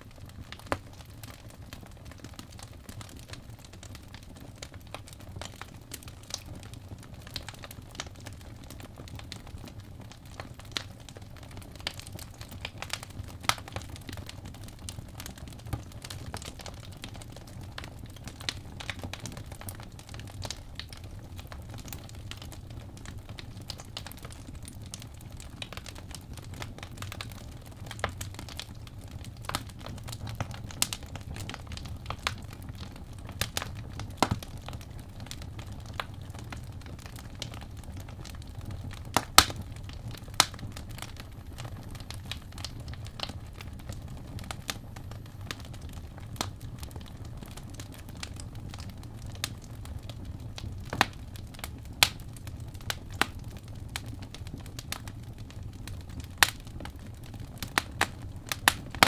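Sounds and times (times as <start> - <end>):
fireplace crackling: 0.0 - 59.0.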